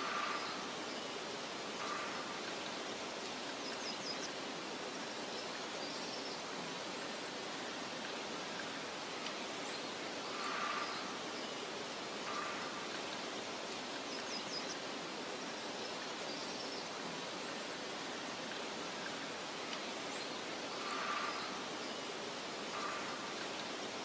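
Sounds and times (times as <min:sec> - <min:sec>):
soft wind hiss: 0:00.0 - 0:24.0.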